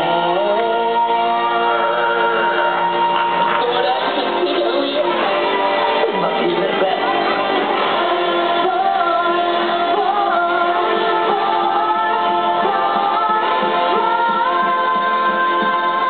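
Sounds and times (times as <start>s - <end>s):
backing music: 0.0s - 16.0s
voices singing together: 0.0s - 16.0s.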